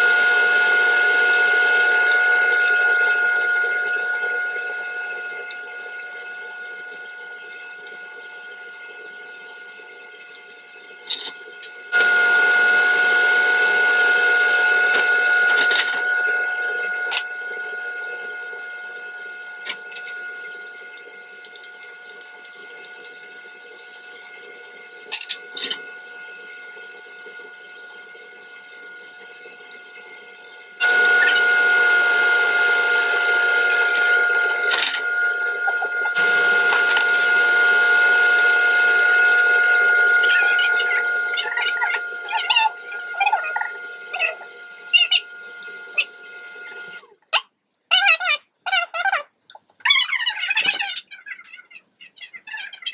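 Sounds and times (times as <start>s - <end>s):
steady high whine: 0.0s - 47.2s.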